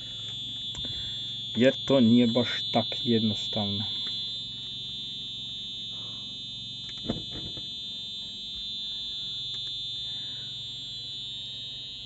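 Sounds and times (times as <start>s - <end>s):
high-pitched electronic buzzer tone: 0.0s - 12.0s
low hum: 0.0s - 12.0s.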